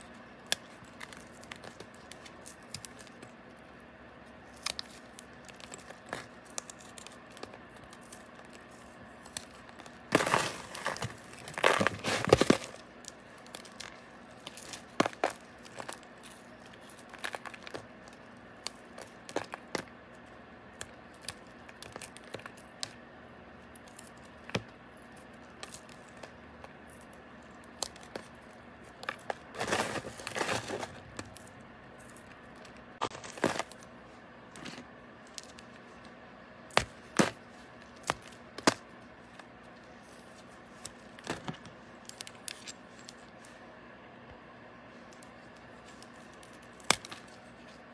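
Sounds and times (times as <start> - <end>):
bar crackling and crunching: 4.4 - 43.4.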